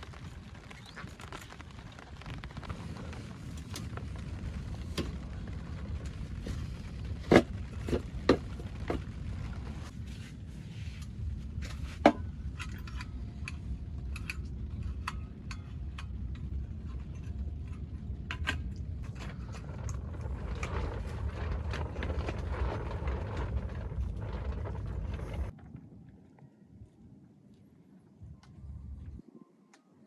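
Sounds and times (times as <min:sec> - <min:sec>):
low rumble: 0:00.0 - 0:27.3, 0:28.1 - 0:29.2.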